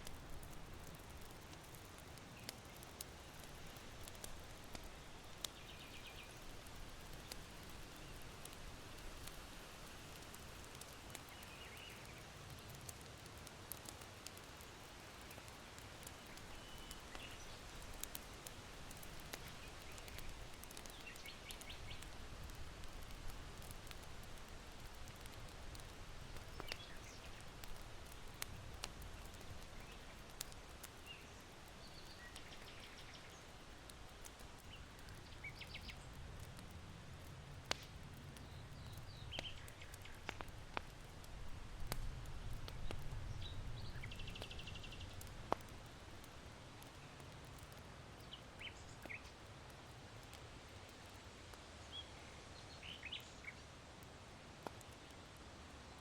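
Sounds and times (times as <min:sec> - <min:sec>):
charcoal crackling in hearth: 0:00.0 - 0:56.0
small birds chirping: 0:00.1 - 0:09.4, 0:10.0 - 0:13.1, 0:13.7 - 0:36.5, 0:37.2 - 0:41.2, 0:41.8 - 0:51.2, 0:51.8 - 0:53.7.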